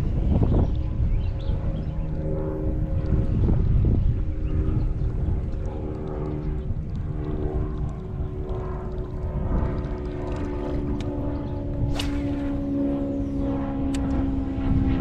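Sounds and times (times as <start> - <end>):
engine drone: 0.0 - 15.0
low rumble: 2.6 - 15.0.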